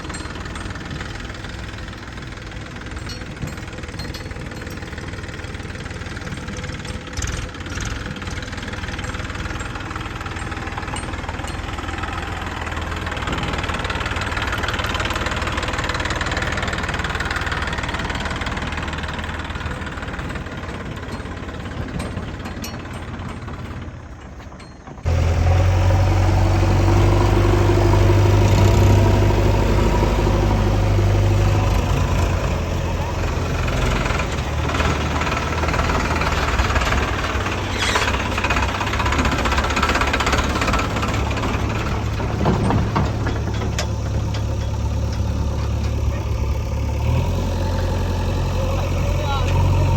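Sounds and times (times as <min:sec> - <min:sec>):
heavy machinery diesel engines: 0:00.0 - 0:49.9.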